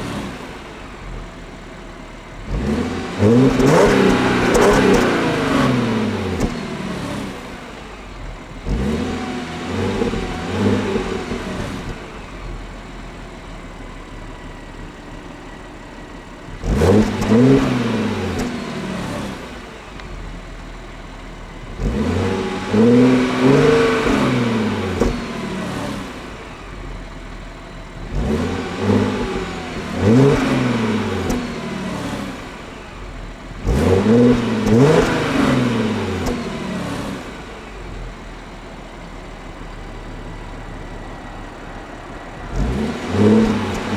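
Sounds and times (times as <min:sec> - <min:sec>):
car engine idling: 0:00.0 - 0:43.9
car engine revving: 0:00.0 - 0:43.9.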